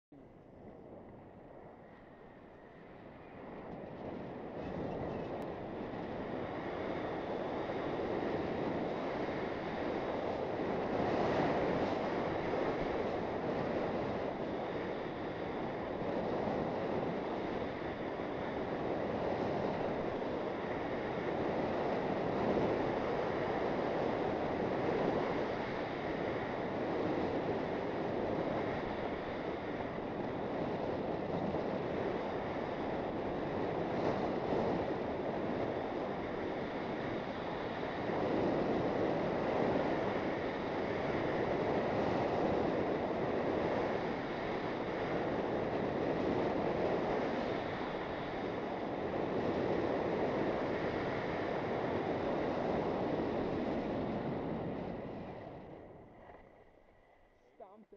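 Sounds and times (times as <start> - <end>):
wind rushing over microphone: 0.1 - 57.9.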